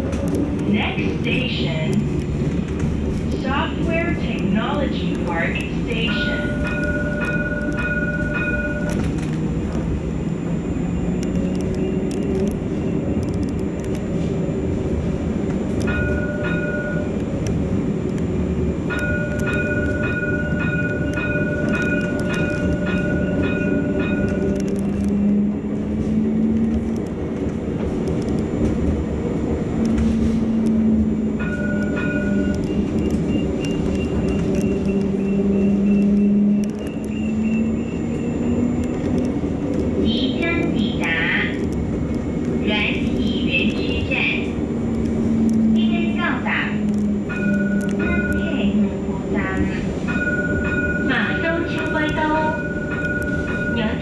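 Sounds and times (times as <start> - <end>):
tram wheels rolling on rail: 0.0 - 54.0.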